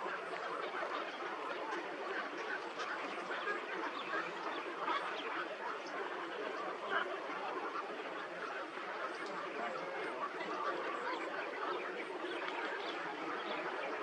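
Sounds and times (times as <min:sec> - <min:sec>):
flock of birds chattering: 0:00.0 - 0:14.0.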